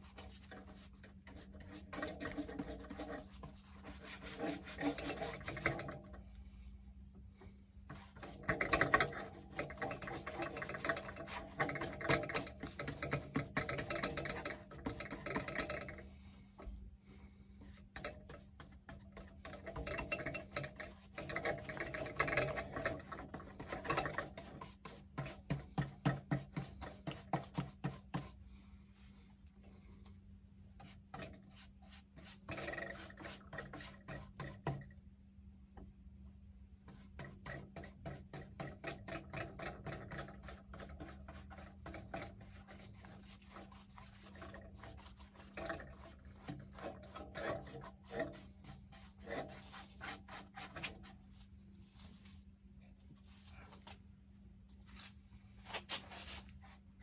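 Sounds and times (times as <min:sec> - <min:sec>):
paintbrush scrubbing on wood: 0:00.0 - 0:06.0, 0:07.9 - 0:15.9, 0:17.6 - 0:28.4, 0:30.8 - 0:34.8, 0:36.9 - 0:52.5, 0:54.9 - 0:56.9.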